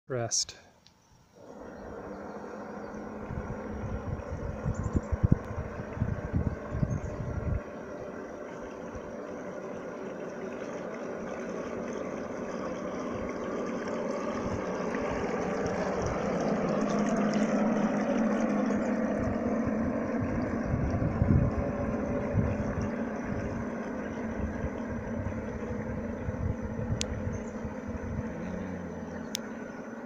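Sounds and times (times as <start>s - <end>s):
model boat motor buzzing: 1.3s - 30.0s
water splashing: 1.4s - 30.0s.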